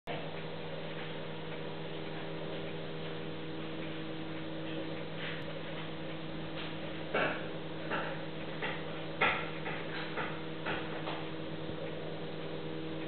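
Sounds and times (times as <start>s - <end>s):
low tones humming: 0.1s - 13.0s.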